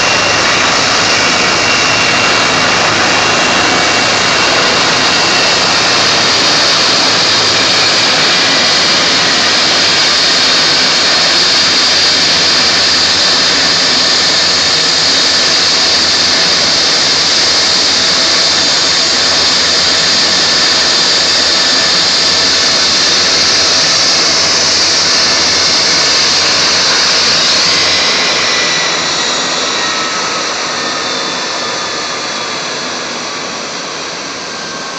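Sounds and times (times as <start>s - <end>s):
helicopter turbine whine and rotor: 0.0s - 34.9s.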